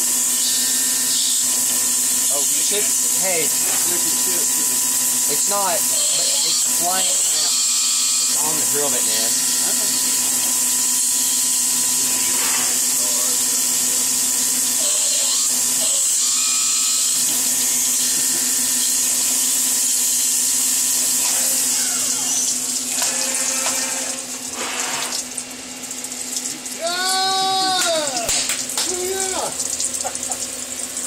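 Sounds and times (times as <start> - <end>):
milling machine hiss: 0.0 - 26.8.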